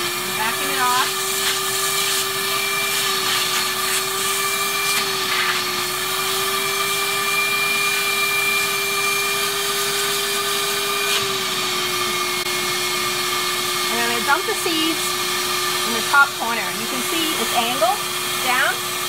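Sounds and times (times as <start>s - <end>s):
vacuum motor humming and whining: 0.0s - 19.0s.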